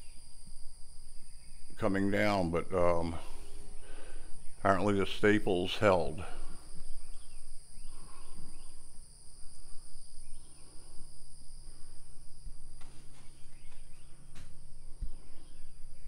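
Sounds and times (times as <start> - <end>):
insects droning: 0.0 - 16.0
low steady hum: 0.0 - 16.0.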